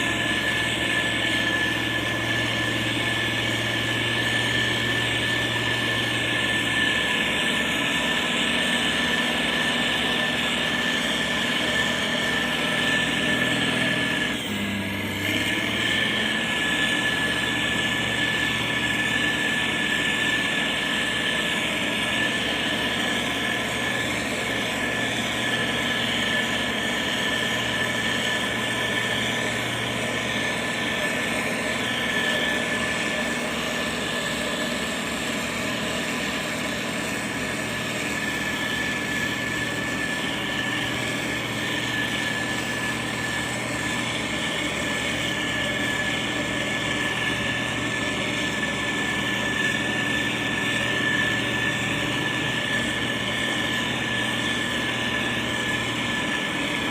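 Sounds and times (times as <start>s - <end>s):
diesel engine running: 0.0s - 56.9s
high whine: 0.0s - 56.9s.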